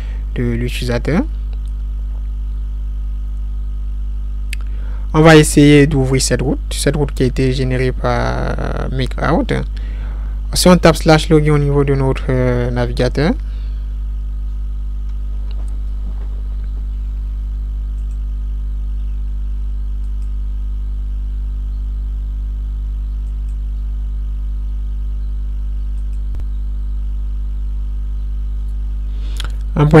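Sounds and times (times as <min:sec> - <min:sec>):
buzzy electrical hum: 0:00.0 - 0:30.0.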